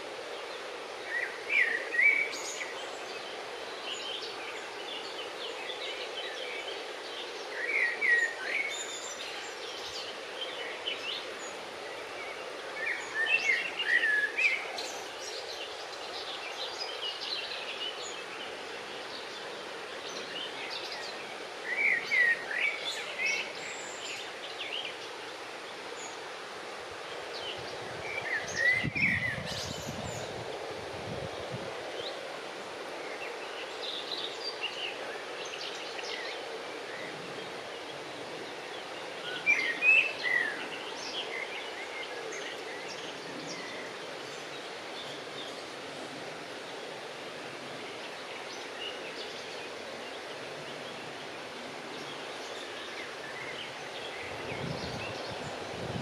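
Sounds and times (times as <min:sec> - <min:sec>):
outdoor background hiss: 0:00.0 - 0:56.0
songbird singing: 0:00.0 - 0:56.0.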